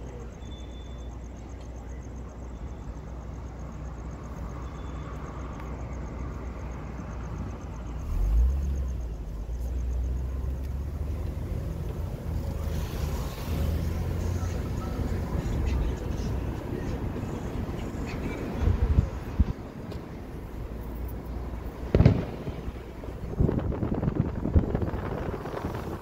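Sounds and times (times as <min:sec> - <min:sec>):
road and engine rumble inside car: 0:01.2 - 0:26.0.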